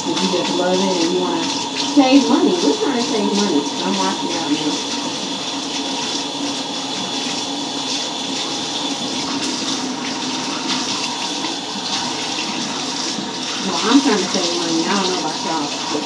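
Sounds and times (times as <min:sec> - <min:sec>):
tap water running and splashing: 0:00.0 - 0:16.0.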